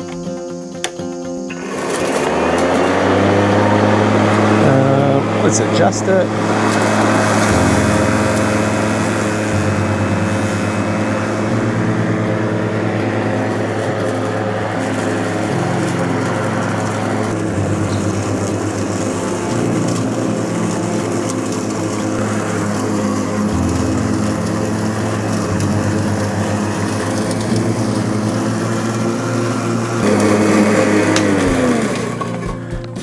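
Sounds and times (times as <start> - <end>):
electric lawn mower cutting grass: 0.0 - 33.0.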